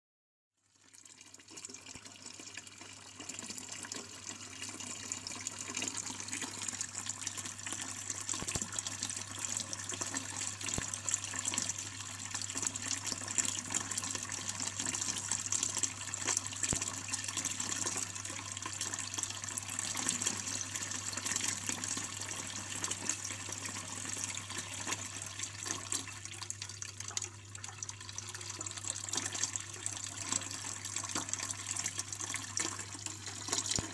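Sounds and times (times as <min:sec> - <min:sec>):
fountain water splashing into basin: 0:04.6 - 0:33.9.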